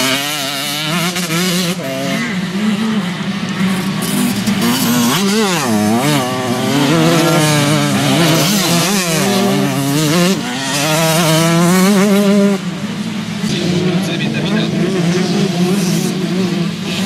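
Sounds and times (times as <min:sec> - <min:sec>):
dirt bikes riding past: 0:00.0 - 0:17.0.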